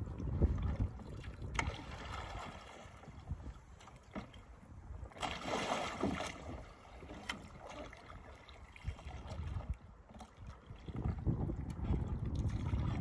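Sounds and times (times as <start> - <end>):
wind on microphone: 0.0 - 6.7, 8.8 - 13.0
water splashing around kayak: 0.0 - 13.0.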